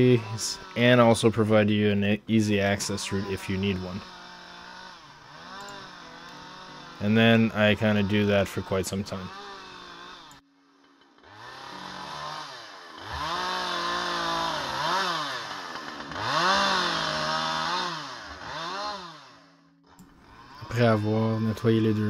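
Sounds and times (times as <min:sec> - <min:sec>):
chainsaw revving and idling: 0:00.0 - 0:10.4, 0:11.0 - 0:22.0.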